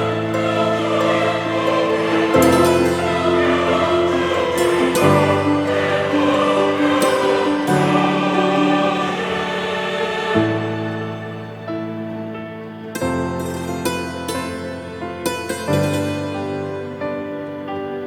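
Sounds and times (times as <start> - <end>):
choir-like chords: 0.0 - 18.0.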